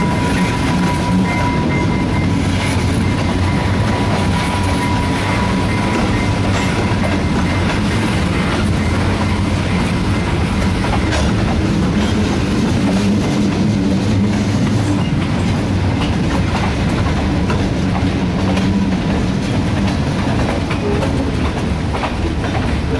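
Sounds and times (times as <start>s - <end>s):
diesel locomotive droning: 0.0s - 22.9s
train wheels clicking over rail joints: 0.0s - 22.9s.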